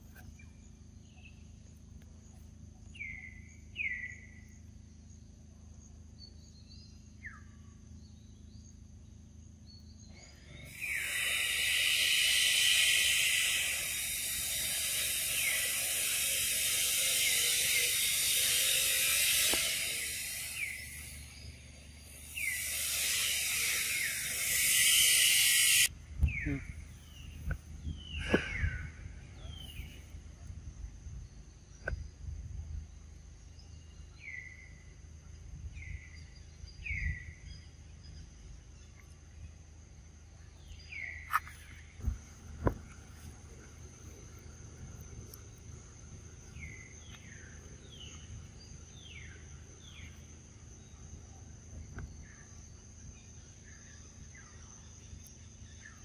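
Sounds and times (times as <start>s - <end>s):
cicada chorus buzzing: 0.0s - 56.0s.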